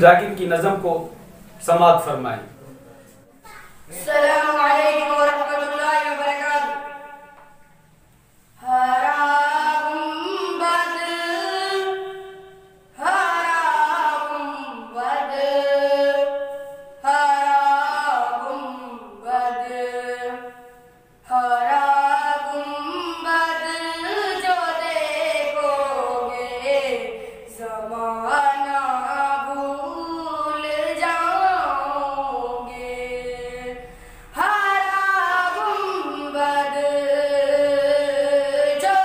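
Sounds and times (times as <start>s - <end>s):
boy singing into a microphone: 3.4s - 7.8s, 8.5s - 39.0s.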